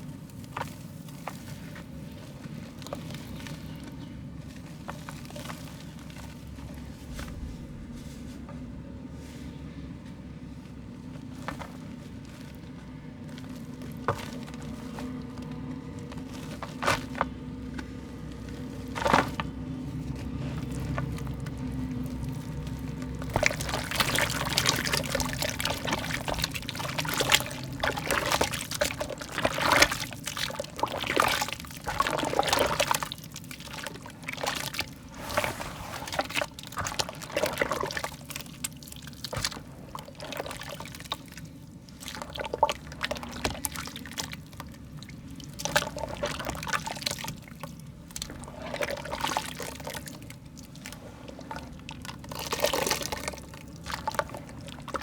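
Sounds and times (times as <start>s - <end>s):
wet mud crumbling: 0.0s - 8.8s, 9.5s - 55.0s.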